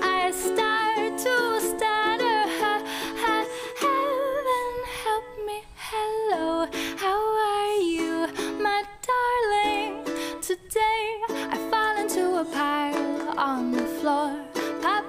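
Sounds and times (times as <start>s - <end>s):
song with plucked strings: 0.0s - 5.1s, 6.3s - 15.0s.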